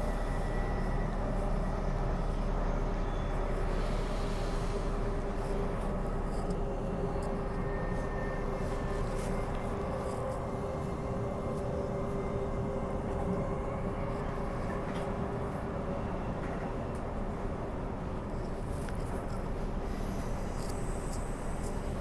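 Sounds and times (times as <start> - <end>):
traction motor hum: 0.0 - 15.9, 17.0 - 22.0
train wheels rumbling on rail: 0.0 - 22.0.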